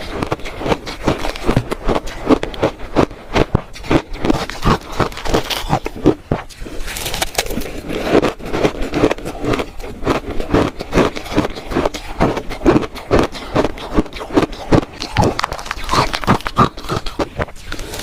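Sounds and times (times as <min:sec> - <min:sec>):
chewing crunchy ice: 0:00.0 - 0:18.0.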